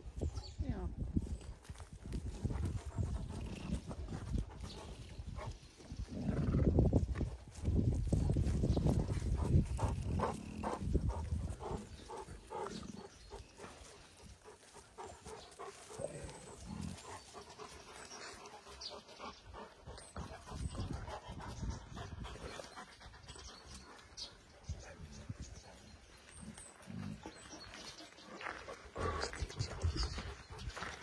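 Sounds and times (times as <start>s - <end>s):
dogs panting: 1.4s - 31.0s
dogs playing: 1.5s - 31.0s.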